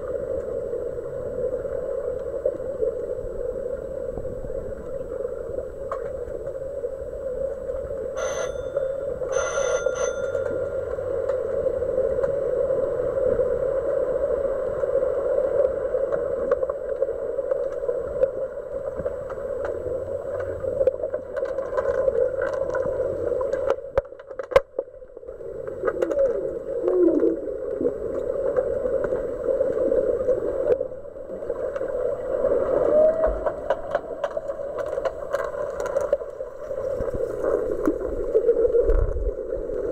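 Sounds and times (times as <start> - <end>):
muffled underwater hum: 0.0 - 39.9.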